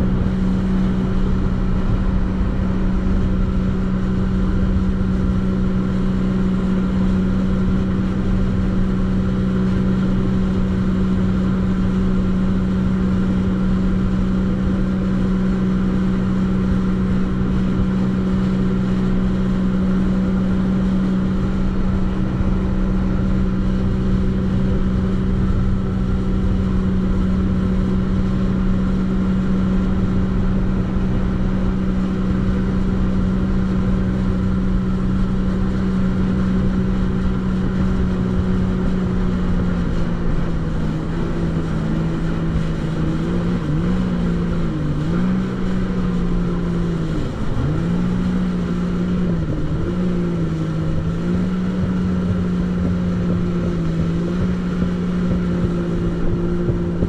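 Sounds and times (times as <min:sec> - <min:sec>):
jet ski engine running: 0:00.0 - 0:57.0
rough rushing noise: 0:00.0 - 0:57.0.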